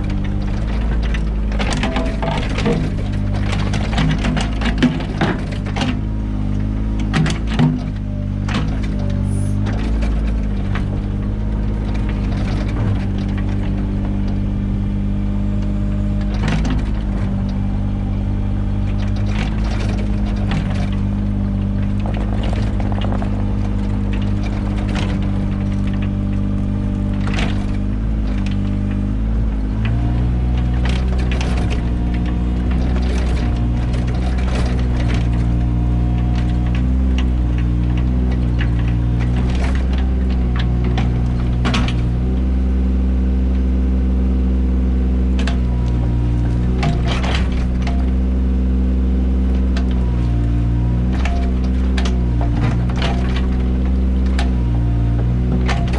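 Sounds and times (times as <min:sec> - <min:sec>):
digging knocks and clanks: 0:00.0 - 0:42.8, 0:45.2 - 0:55.9
excavator engine running: 0:00.0 - 0:55.9.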